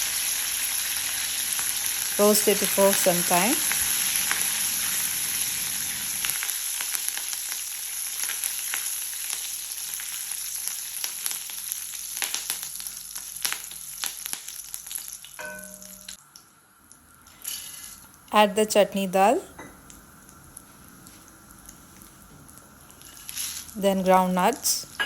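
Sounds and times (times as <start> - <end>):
leaves sizzling in hot oil: 0.0 - 18.3, 19.8 - 25.0.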